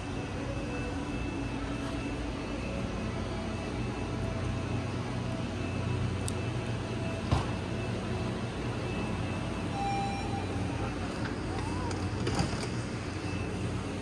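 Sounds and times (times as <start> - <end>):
faint high steady tone: 0.0 - 12.0
low mechanical hum: 0.0 - 14.0.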